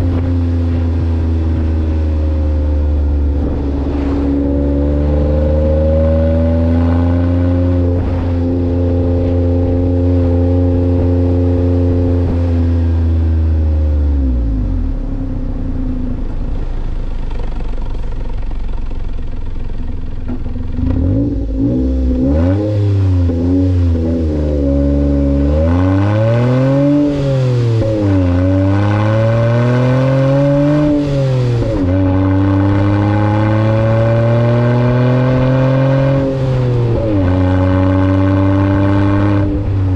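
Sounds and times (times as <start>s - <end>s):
small car engine revving: 0.0s - 39.9s.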